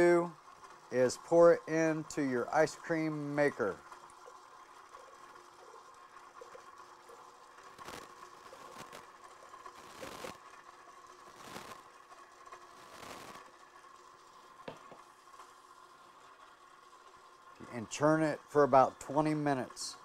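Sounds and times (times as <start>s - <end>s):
liquid pouring into bowl: 0.3s - 19.8s.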